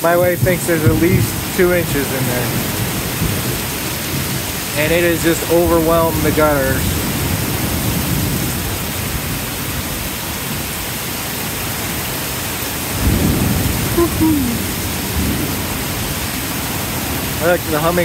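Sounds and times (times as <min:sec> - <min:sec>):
thunder rumble: 0:00.0 - 0:18.0
torrential rain: 0:00.0 - 0:18.0
water pouring off gutters: 0:00.0 - 0:18.0.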